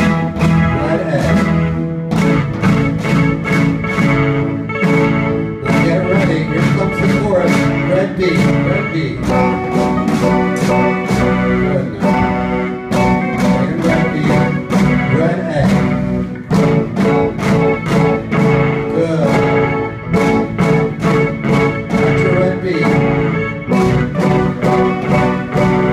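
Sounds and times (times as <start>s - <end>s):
drum kit beat: 0.0s - 25.9s
electric guitar: 0.0s - 25.9s
keyboard playing: 0.0s - 25.9s.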